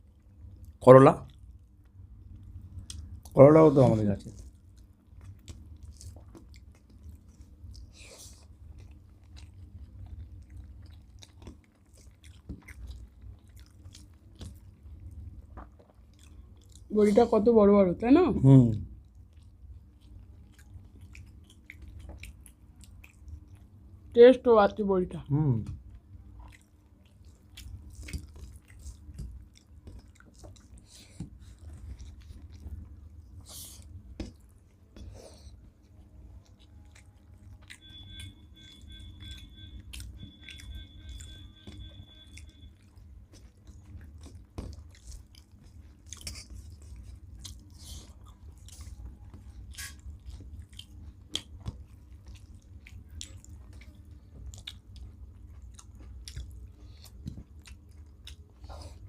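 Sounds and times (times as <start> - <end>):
people chewing food: 0.0 - 24.1, 25.2 - 59.0
low steady hum: 0.0 - 59.0.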